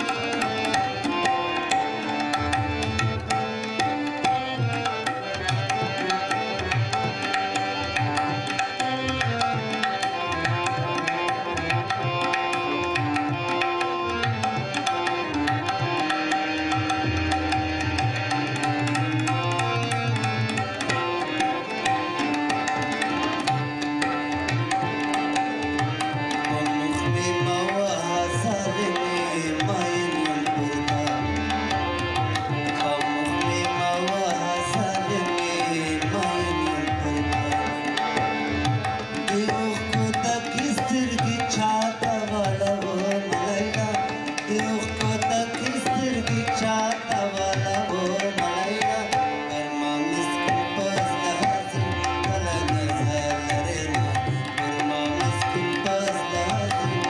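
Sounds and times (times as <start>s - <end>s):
harmonium melody: 0.0s - 57.0s
tabla rhythm: 0.0s - 57.0s.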